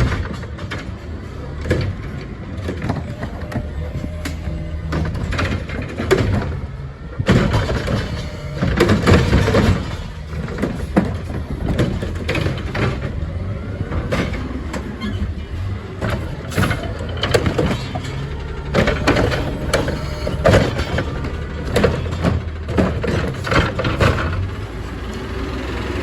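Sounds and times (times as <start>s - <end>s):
clanking and banging: 0.0s - 24.6s
garbage truck diesel engine: 0.0s - 26.0s.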